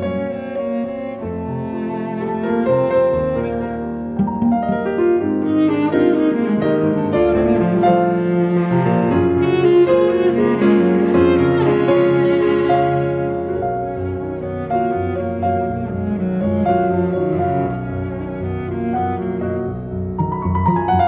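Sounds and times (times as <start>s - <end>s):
instrumental music with held notes: 0.0s - 21.0s.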